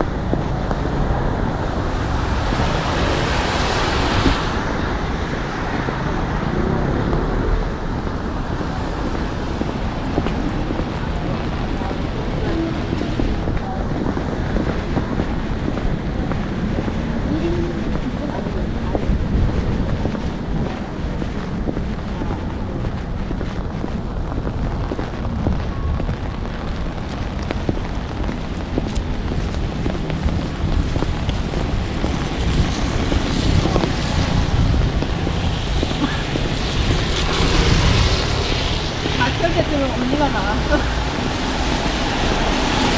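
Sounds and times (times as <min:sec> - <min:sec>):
passing traffic hum: 0:00.0 - 0:42.9
wind buffeting microphone: 0:00.0 - 0:42.9.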